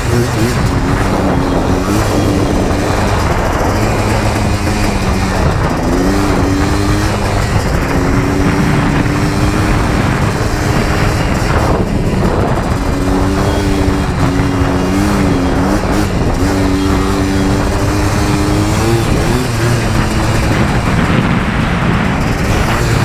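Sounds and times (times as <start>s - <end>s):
atv engine running: 0.0s - 23.0s
dense rushing noise: 0.0s - 23.0s.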